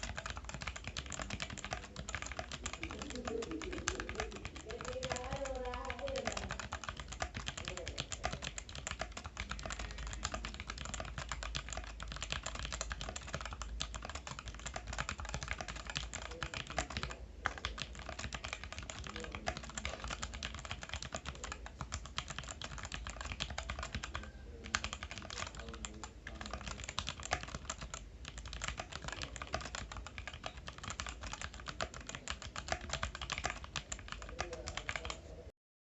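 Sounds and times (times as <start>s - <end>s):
mechanical keyboard typing: 0.0s - 35.4s.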